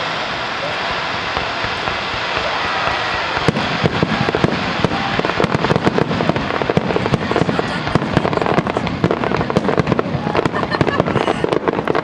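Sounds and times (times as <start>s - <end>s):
fireworks bangs and crackling: 0.0s - 12.0s
steady noisy background: 0.0s - 12.0s.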